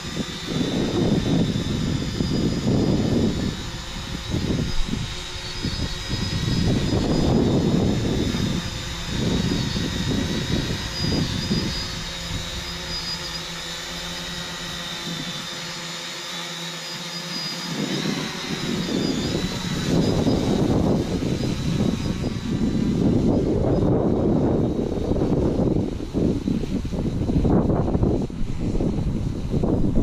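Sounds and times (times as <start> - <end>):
wind rumble on microphone: 0.0 - 15.6, 17.6 - 30.0
drone propellers whining: 0.0 - 30.0.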